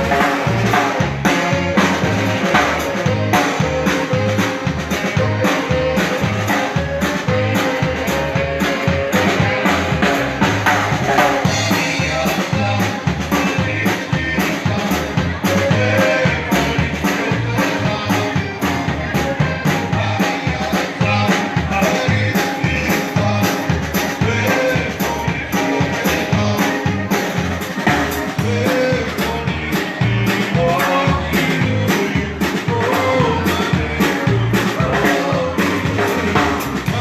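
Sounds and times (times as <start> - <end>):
dance band playing live: 0.0 - 37.0
drum kit beat: 0.0 - 37.0.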